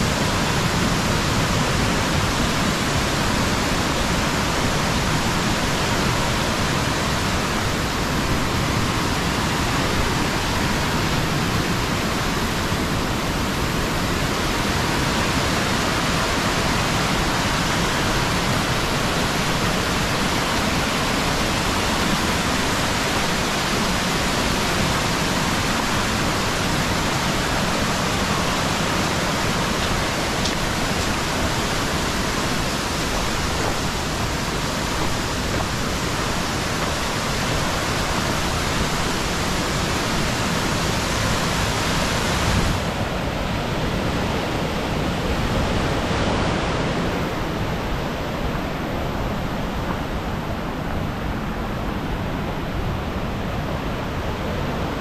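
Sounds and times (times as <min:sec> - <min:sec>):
mountain stream rushing over boulders: 0:00.0 - 0:55.0.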